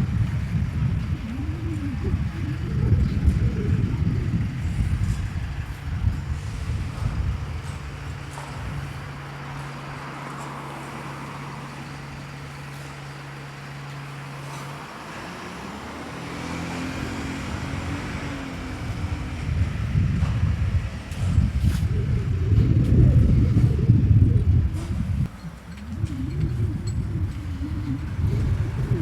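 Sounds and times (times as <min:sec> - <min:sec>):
vehicle engine humming: 0:00.0 - 0:29.0
vehicle rumble approaching: 0:00.0 - 0:29.0.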